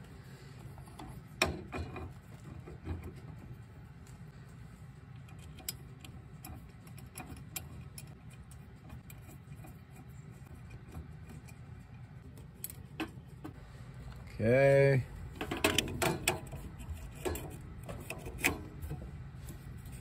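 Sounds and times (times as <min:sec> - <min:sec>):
light clicks of metal parts: 0:00.0 - 0:14.3, 0:15.3 - 0:20.0
low steady hum: 0:00.0 - 0:20.0.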